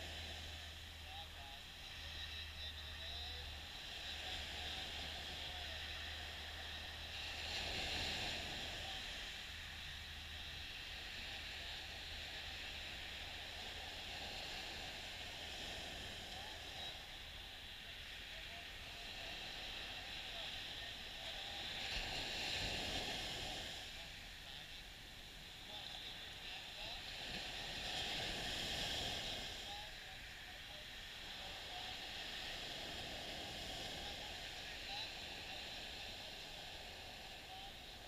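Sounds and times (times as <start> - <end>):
gentle waves washing up beach: 0.0 - 38.0.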